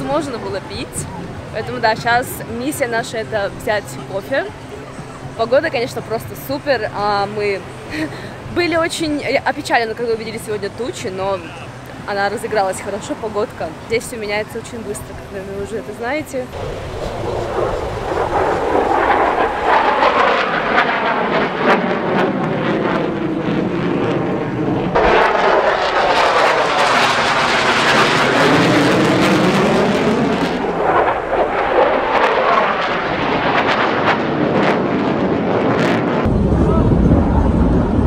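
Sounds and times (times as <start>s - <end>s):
jet aircraft flying over: 0.0s - 38.0s.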